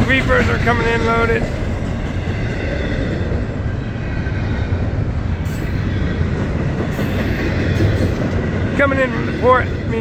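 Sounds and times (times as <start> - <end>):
freight train wheels on rails: 0.0 - 10.0.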